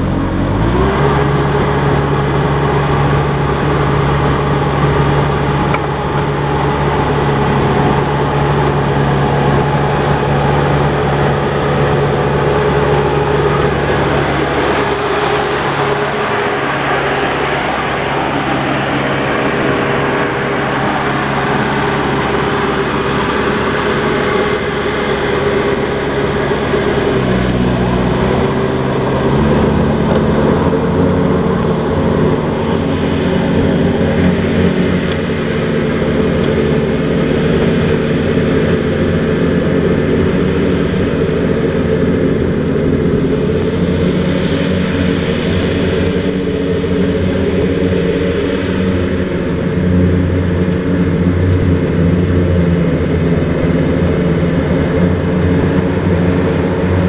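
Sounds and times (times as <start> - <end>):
mower diesel engine running: 0.0 - 57.0.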